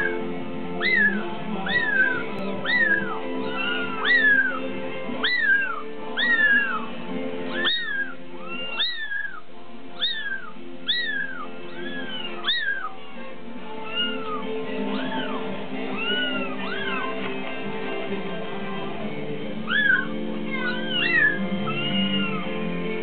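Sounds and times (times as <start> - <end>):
kittens mewing: 0.0 - 17.5, 19.6 - 23.0
background music with held notes: 0.0 - 23.0.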